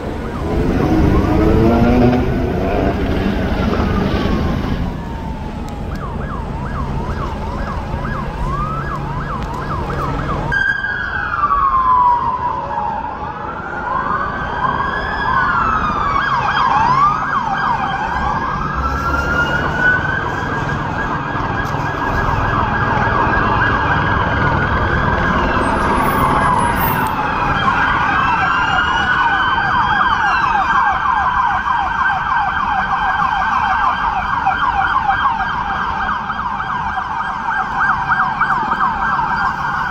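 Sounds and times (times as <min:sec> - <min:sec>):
emergency sirens wailing: 0:00.0 - 0:39.9.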